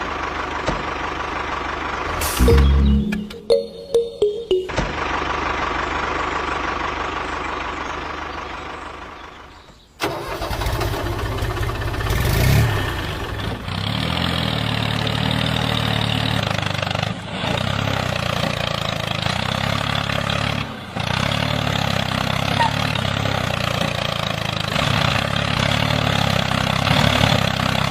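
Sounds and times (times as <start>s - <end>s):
small tractor engine running: 5.0s - 27.9s.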